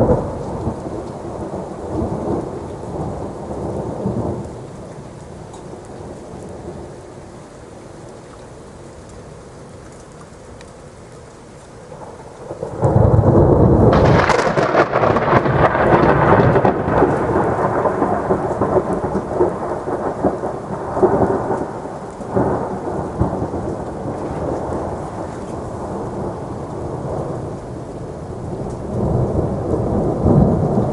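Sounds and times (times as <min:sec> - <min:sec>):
thunderclap rumbling: 0:00.0 - 0:08.2, 0:11.8 - 0:30.9
steady rain: 0:00.0 - 0:30.9.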